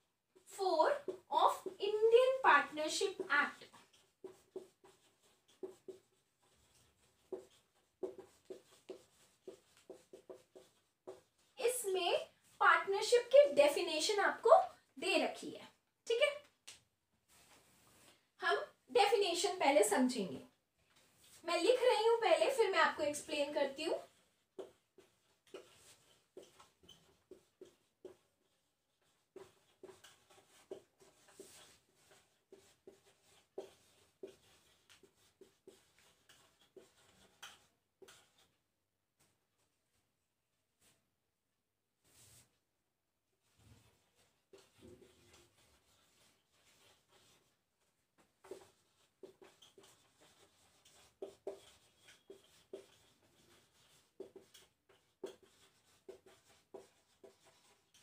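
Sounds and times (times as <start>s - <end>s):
marker pen writing on whiteboard: 0.3s - 14.8s, 20.4s - 38.6s, 43.4s - 58.0s.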